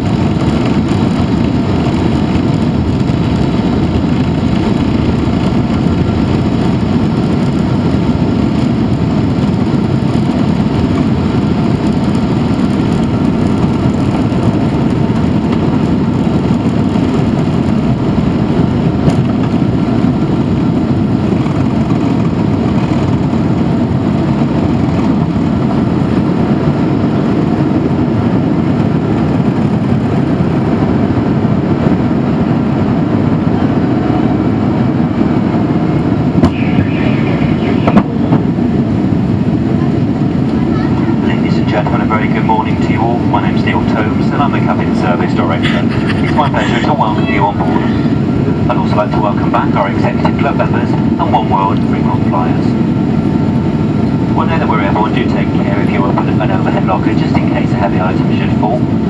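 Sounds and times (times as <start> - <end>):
faint engine whine: 0.0 - 59.0
jet engines rushing: 0.0 - 59.0.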